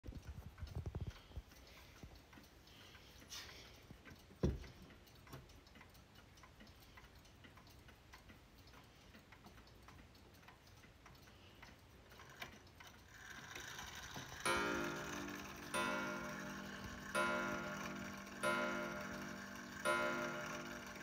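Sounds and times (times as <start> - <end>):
wall clock ticking: 0.0 - 21.0.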